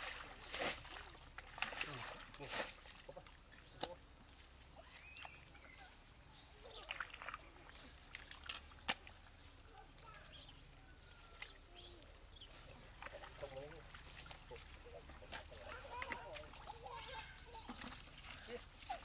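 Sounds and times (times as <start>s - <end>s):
hands splashing in muddy water: 0.0s - 5.8s, 6.5s - 19.0s.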